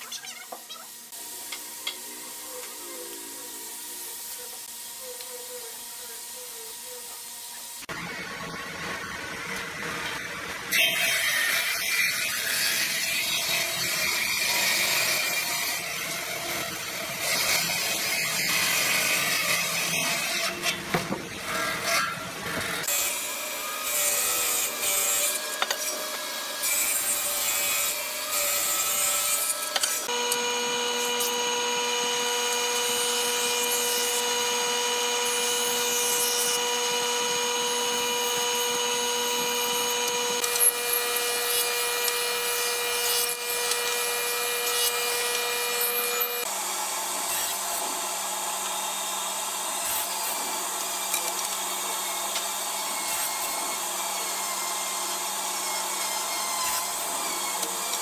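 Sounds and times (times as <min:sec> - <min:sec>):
table saw cutting wood: 0:00.0 - 0:58.0
jointer planing wood: 0:07.8 - 0:58.0.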